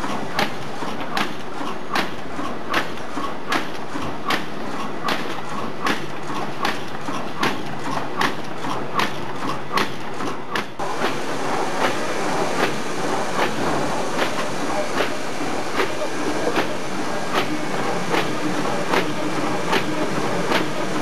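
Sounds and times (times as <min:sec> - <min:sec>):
forming machine clacking: 0:00.0 - 0:21.0
mechanical hum: 0:00.0 - 0:21.0.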